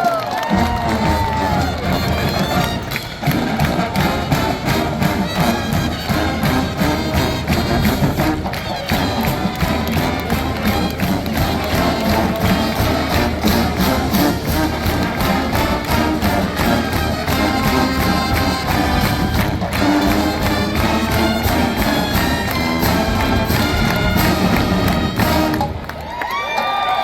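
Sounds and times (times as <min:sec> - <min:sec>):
marching band brass: 0:00.0 - 0:27.0
steady drum beat: 0:00.4 - 0:25.9.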